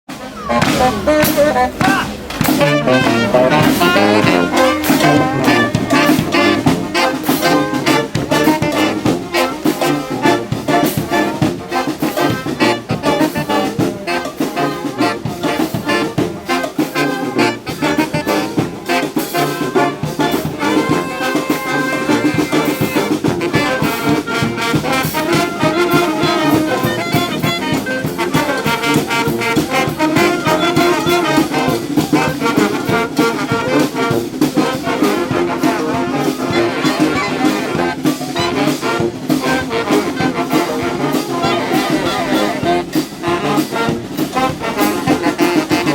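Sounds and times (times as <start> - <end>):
brass band playing: 0.1 - 45.9.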